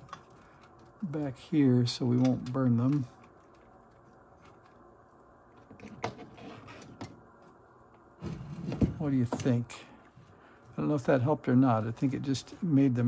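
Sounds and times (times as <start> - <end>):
wires and plastic connectors rustling: 0.0 - 13.0.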